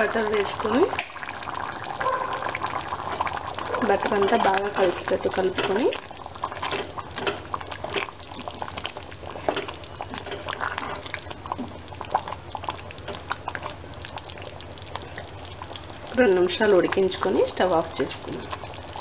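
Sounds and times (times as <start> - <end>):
curry bubbling in a pan: 0.0 - 19.0.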